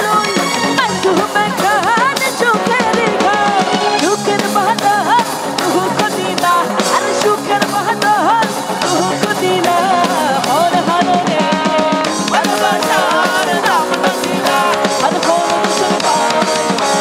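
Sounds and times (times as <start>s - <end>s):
band with drum kit: 0.0s - 17.0s
woman singing into microphone: 0.0s - 17.0s.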